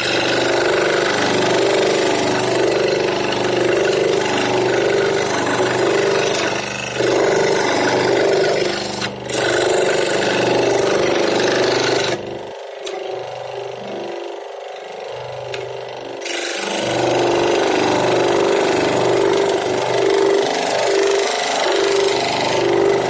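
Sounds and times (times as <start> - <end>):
power tool cutting wood: 0.0 - 23.0.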